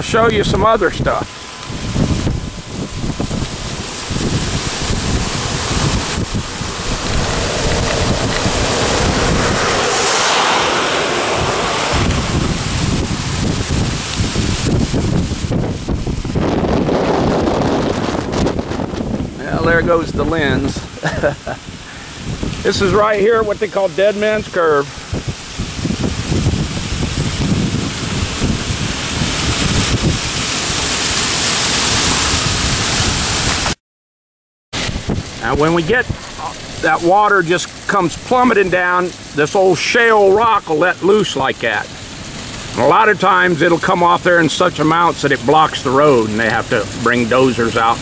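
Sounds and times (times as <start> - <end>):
rushing hiss: 0.0 - 16.4, 19.3 - 33.8, 34.8 - 48.0
vehicle on wet road: 0.0 - 33.8, 34.8 - 48.0
wind buffeting microphone: 0.0 - 33.8, 34.8 - 43.7.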